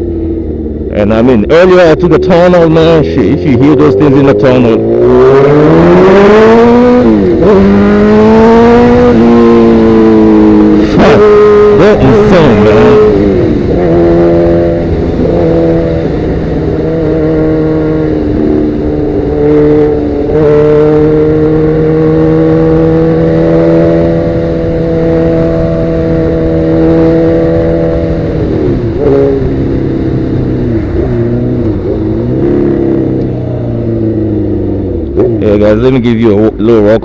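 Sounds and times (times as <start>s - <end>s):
low wind rumble: 0.0s - 37.0s
motorcycle engine while riding: 0.0s - 37.0s.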